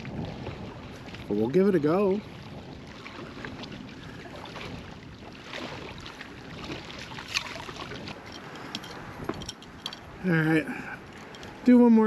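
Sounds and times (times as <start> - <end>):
wind in a snowstorm: 0.0 - 12.0.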